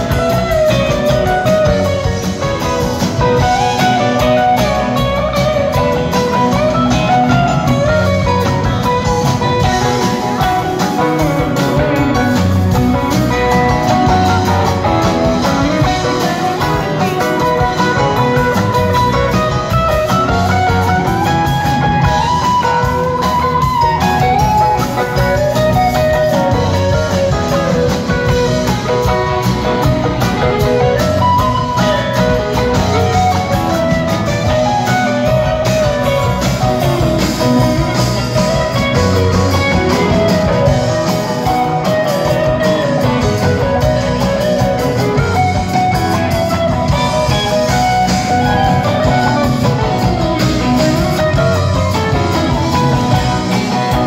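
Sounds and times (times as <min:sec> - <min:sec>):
electric guitar lead line: 0:00.0 - 0:54.0
live rock band playing: 0:00.0 - 0:54.0.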